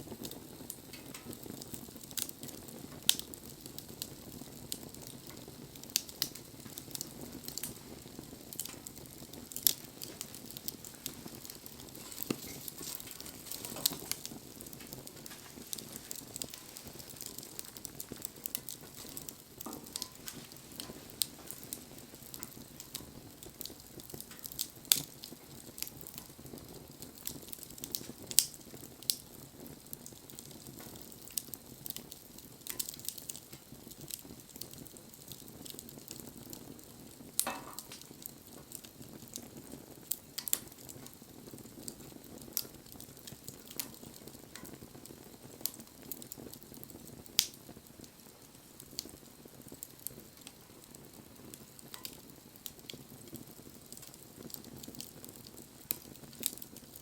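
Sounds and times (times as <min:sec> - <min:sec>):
campfire hissing: 0:00.0 - 0:57.0
wood crackling and popping: 0:00.0 - 0:57.0.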